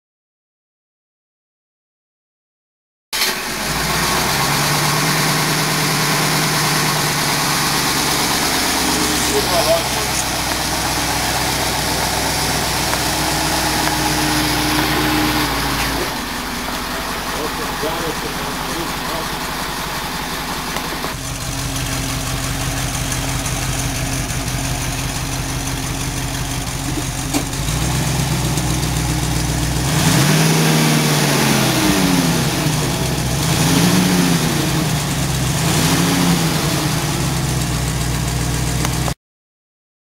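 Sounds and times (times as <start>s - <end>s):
car engine idling: 3.2s - 39.2s
engine throttle blips: 3.2s - 39.2s.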